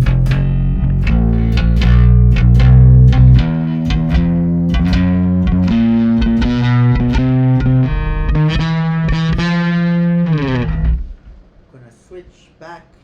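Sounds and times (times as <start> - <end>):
electric bass plucked notes: 0.0 - 11.2.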